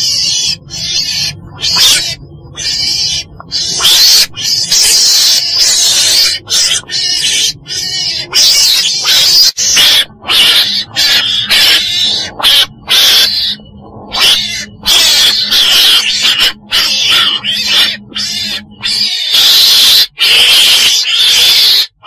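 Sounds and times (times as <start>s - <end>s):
animal high-pitched screeches: 0.0s - 22.0s.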